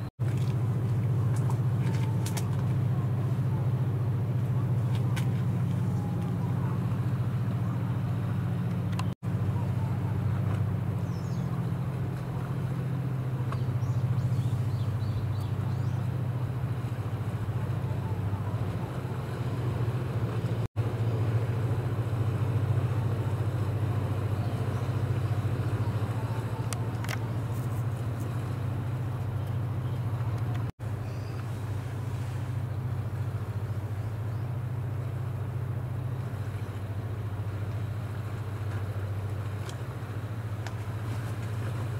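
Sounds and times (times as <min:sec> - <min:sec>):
tugboat engine drone: 0:00.0 - 0:41.9.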